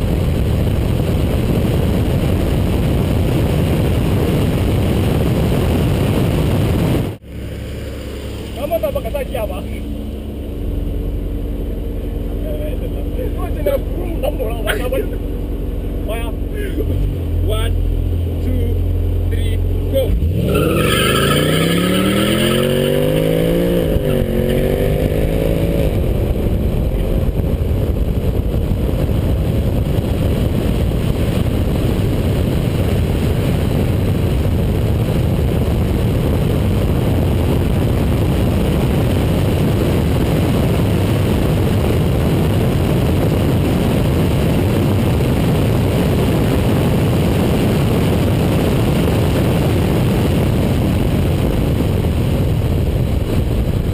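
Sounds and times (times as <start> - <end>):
car engine accelerating hard: 0.0 - 53.9
wind and road noise: 0.0 - 53.9.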